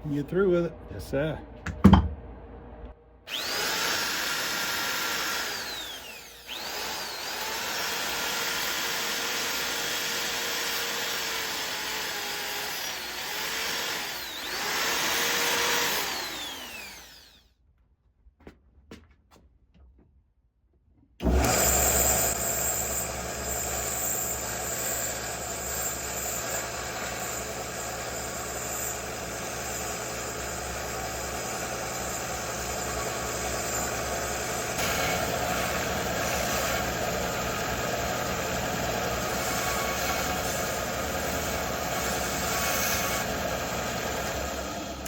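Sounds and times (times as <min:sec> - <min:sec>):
power tool motor humming: 0:03.3 - 0:17.4, 0:21.2 - 0:45.0.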